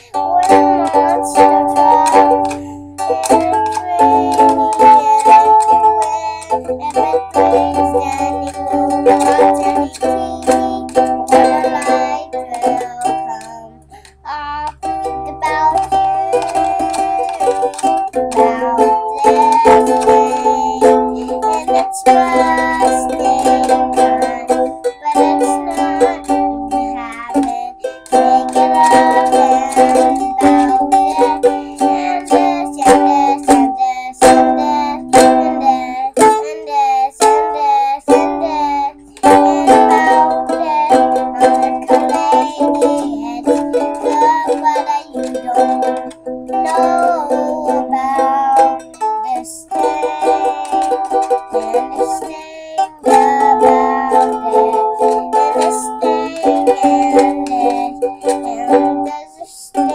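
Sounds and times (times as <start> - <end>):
ukulele strumming chords: 0.0 - 59.9.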